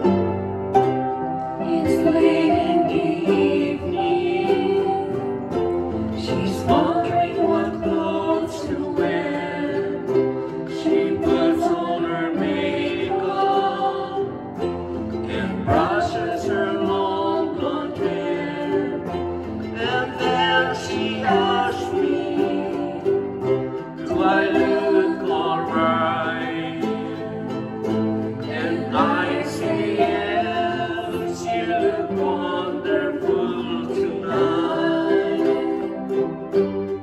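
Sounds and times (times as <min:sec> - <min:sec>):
ukuleles strummed: 0:00.0 - 0:37.0
upright piano: 0:00.0 - 0:37.0
person singing: 0:01.4 - 0:37.0.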